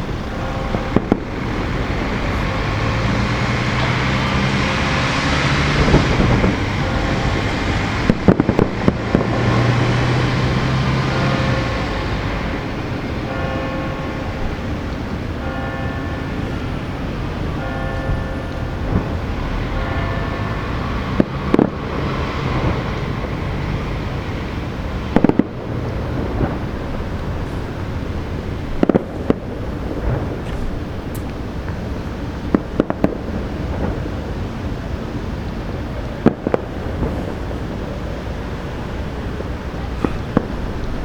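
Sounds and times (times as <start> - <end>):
distant fireworks bangs: 0.0 - 41.0
steady background rumble: 0.0 - 41.0.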